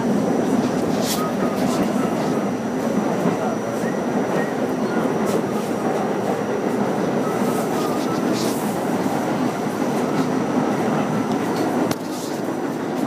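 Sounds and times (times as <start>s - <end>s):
rumble of wheels on rail: 0.0s - 13.0s.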